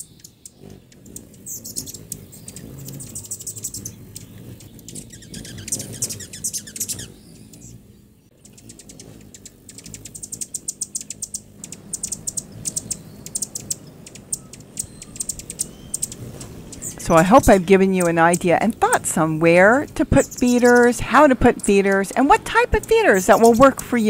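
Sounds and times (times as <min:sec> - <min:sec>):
hummingbirds chipping: 0:00.0 - 0:24.0.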